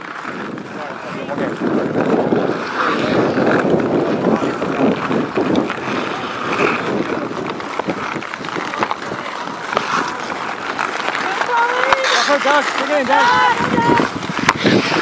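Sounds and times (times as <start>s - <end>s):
hockey sticks and puck clacking: 0.0s - 15.0s
skate blades scraping ice: 0.0s - 15.0s.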